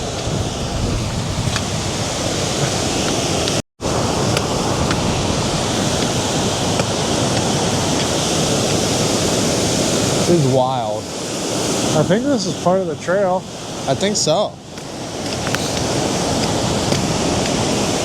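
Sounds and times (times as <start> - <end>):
waves surging on shore: 0.0 - 18.0
wind on microphone: 0.0 - 18.0.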